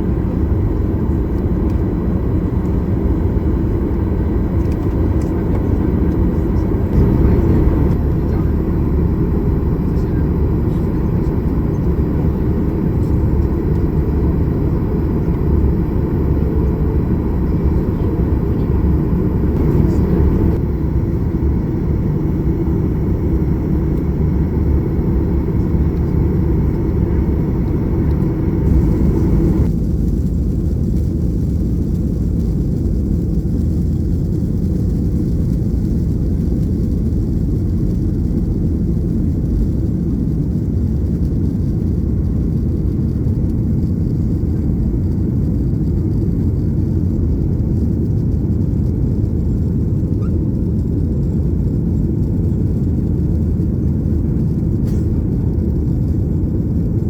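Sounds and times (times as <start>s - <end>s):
airliner jet engine rumble: 0.0s - 57.0s.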